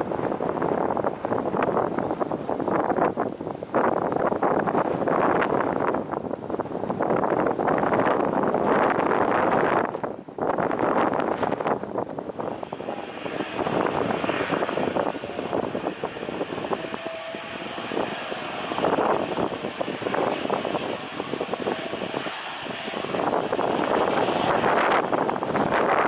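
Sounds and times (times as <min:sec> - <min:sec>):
jet airliner passing: 0:00.0 - 0:26.0.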